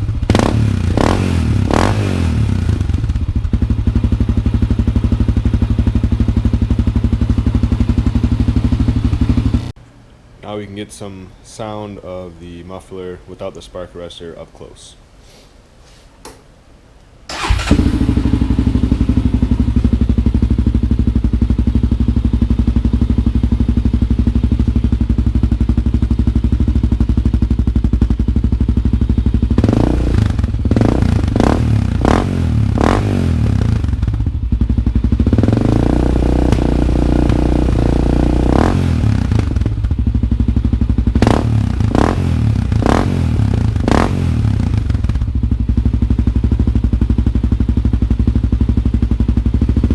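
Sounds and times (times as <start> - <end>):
motorcycle engine revving: 0.0 - 9.8, 17.3 - 49.9.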